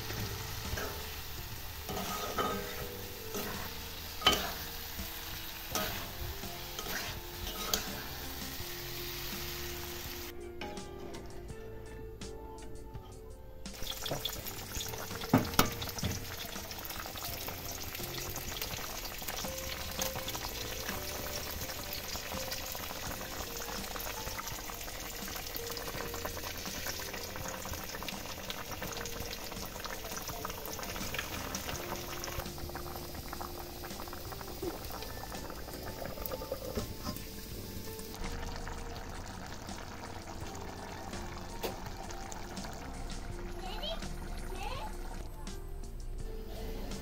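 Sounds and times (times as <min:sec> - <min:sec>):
curry boiling and bubbling: 0:00.0 - 0:10.4, 0:13.7 - 0:45.4.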